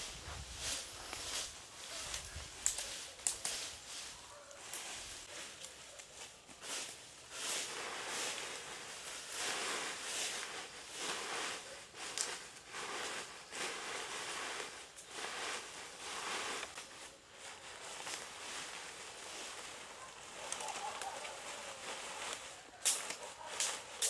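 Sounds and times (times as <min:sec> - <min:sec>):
rustling and scraping: 0:00.0 - 0:24.0.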